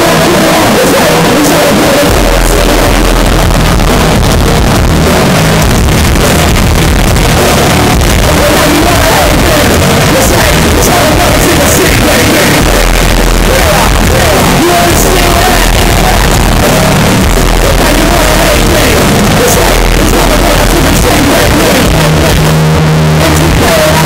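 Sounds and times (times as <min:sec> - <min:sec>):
electric guitar: 0:00.0 - 0:24.0
live rock band playing: 0:01.8 - 0:24.0
deep low note: 0:02.1 - 0:11.6, 0:12.4 - 0:24.0.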